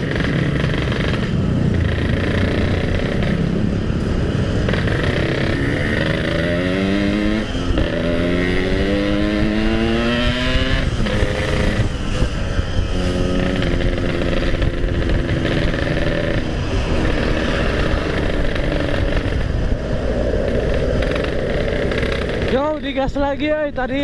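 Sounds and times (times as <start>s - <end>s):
motorcycle engine revving: 0.0s - 23.3s
wind rumble on microphone: 0.0s - 24.0s.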